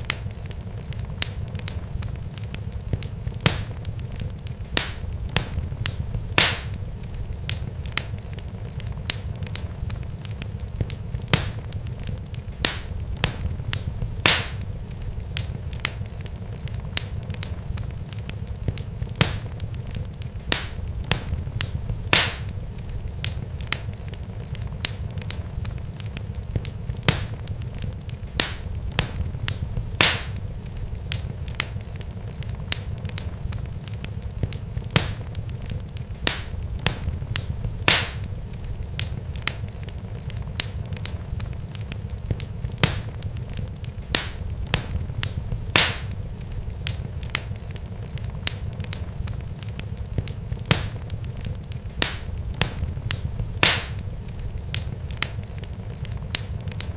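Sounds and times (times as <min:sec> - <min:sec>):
fire crackling and popping: 0:00.0 - 0:56.9
low steady rumble: 0:00.0 - 0:56.9.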